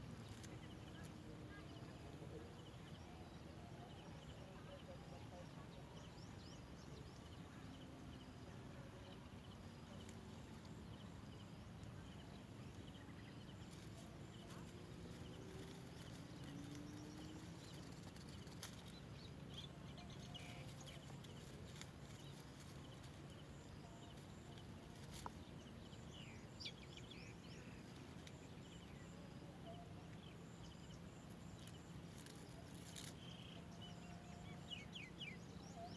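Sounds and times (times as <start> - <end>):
faint bird chirps: 0.0 - 35.9
low outdoor hum: 0.0 - 35.9.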